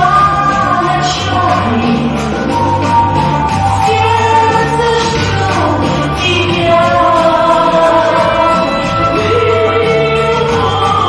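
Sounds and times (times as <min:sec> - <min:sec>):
woman singing: 0:00.0 - 0:03.0, 0:03.6 - 0:11.0
backing track with bass line: 0:00.0 - 0:11.0.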